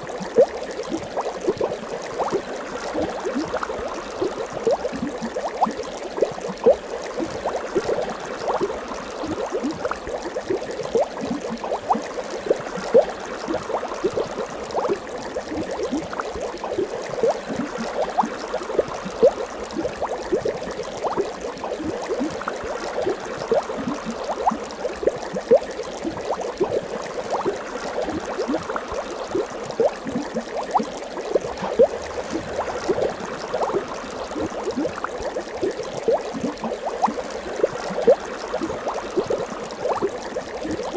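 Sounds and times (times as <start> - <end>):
water bubbling: 0.0 - 40.9.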